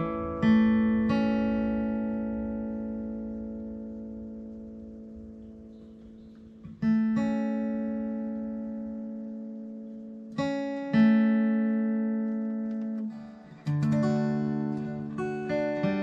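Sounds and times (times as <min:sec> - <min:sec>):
acoustic guitar chords strummed: 0:00.0 - 0:16.0.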